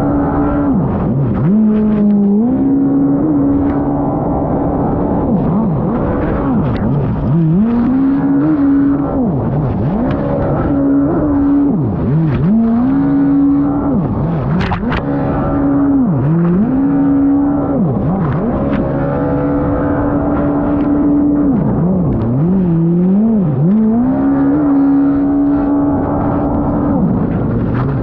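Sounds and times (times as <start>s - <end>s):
jet ski engine revving: 0.0s - 28.0s.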